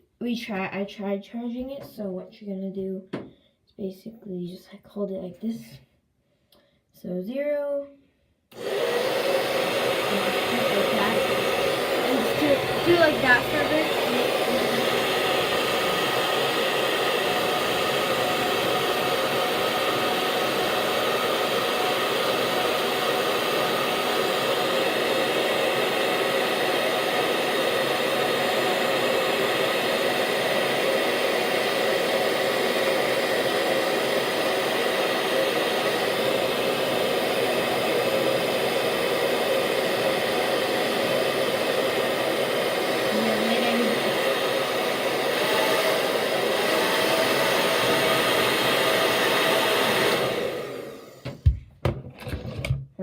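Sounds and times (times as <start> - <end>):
hair dryer blowing: 8.5 - 52.5.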